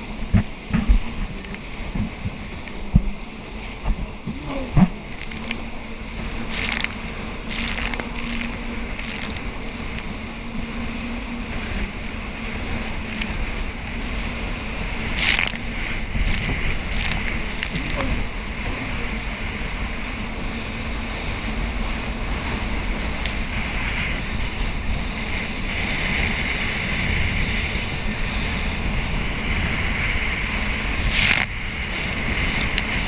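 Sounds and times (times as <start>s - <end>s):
jet ski engine drone: 0.0s - 33.0s
water rushing: 0.0s - 33.0s
wind buffeting microphone: 0.0s - 33.0s.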